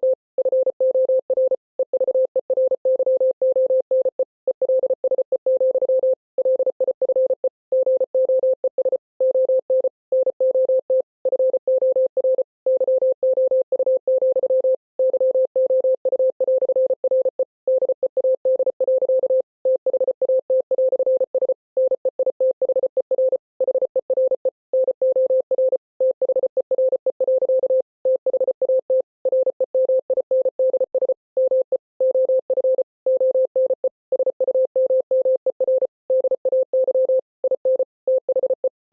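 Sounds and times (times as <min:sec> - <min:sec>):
morse code beeps: 0:00.0 - 0:38.8.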